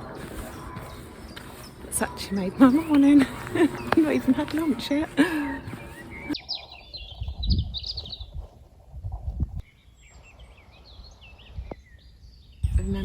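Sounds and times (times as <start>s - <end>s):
songbird chirping and warbling: 0.0s - 8.8s, 9.5s - 13.0s.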